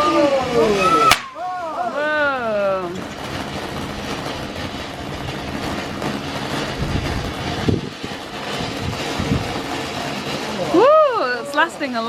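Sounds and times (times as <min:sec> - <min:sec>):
firework cracks: 0:00.0 - 0:12.0
firework hissing: 0:00.0 - 0:12.0.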